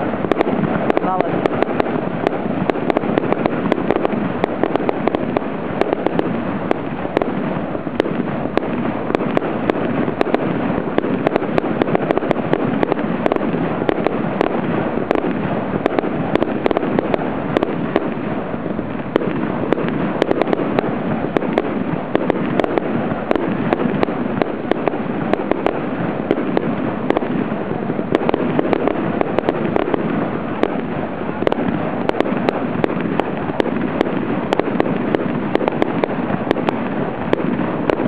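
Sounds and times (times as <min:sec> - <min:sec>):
fireworks popping and banging: 0:00.0 - 0:38.0.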